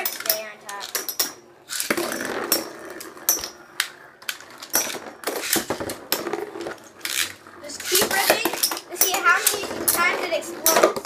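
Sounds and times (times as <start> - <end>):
spinning tops whirring and clacking: 0.0 - 11.0.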